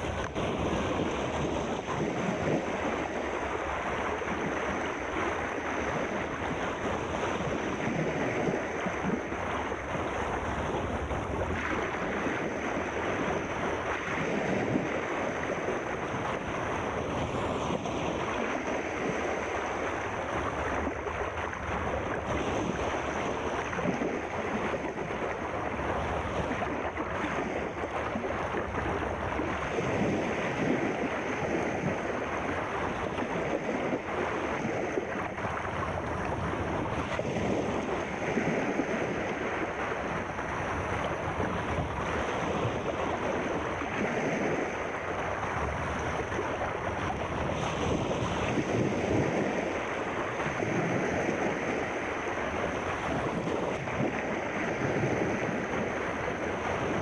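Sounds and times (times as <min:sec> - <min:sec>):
sea waves washing: 0:00.0 - 0:57.0.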